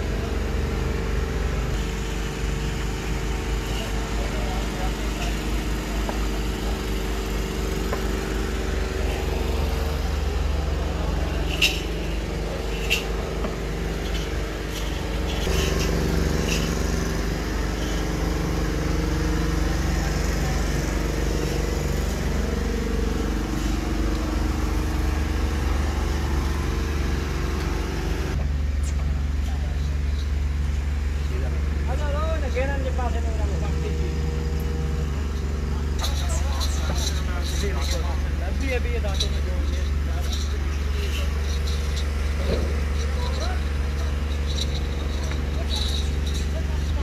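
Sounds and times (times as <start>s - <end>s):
engine droning: 0.0s - 47.0s.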